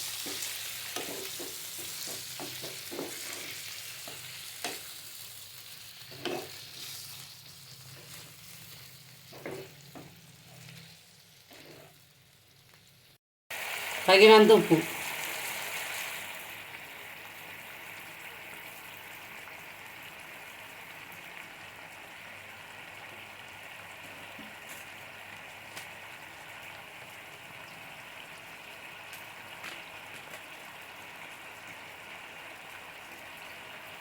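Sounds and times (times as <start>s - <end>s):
curry sizzling in a pan: 0.0s - 34.0s.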